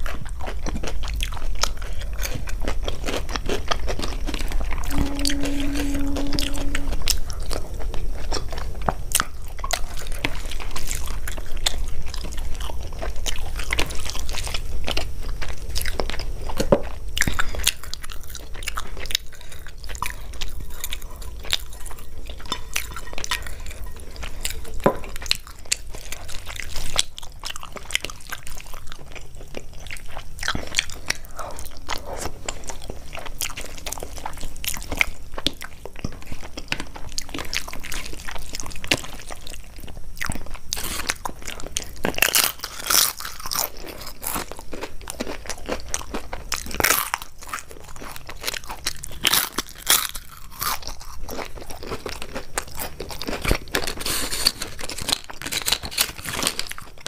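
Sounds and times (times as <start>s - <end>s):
person chewing crunchy food: 0.0s - 6.8s, 7.8s - 57.0s.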